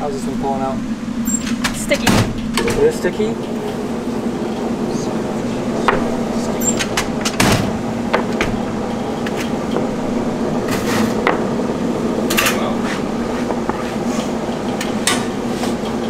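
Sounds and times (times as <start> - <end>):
candy roller machine humming: 0.0 - 16.0.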